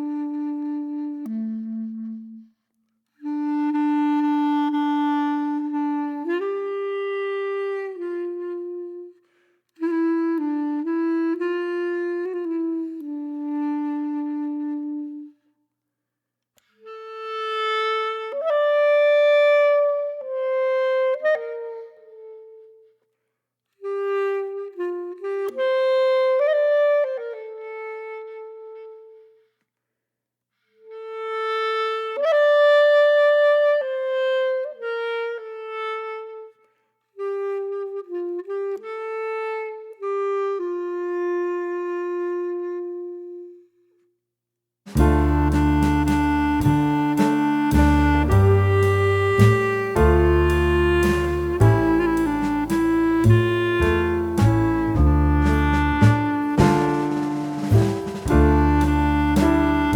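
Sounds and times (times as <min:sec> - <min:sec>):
slow woodwind melody: 0:00.0 - 0:15.4, 0:16.8 - 0:23.0, 0:23.8 - 0:29.4, 0:30.9 - 0:43.7, 0:44.9 - 0:59.9.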